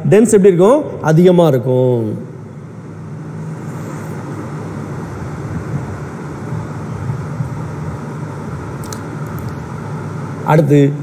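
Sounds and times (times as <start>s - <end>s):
broad rushing noise: 0.0s - 11.0s
low hum: 0.0s - 11.0s.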